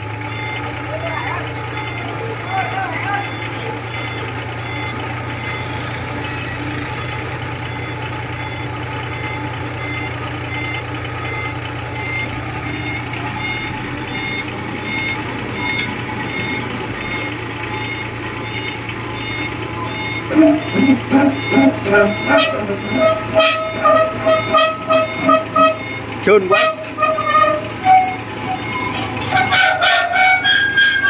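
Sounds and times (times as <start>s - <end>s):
road roller engine running: 0.0s - 31.0s
backup alarm beeping: 0.2s - 31.0s.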